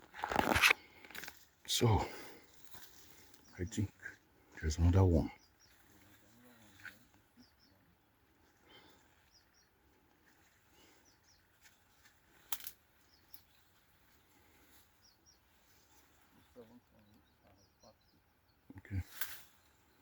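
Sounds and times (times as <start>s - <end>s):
faint bird chirps: 1.8s - 20.0s.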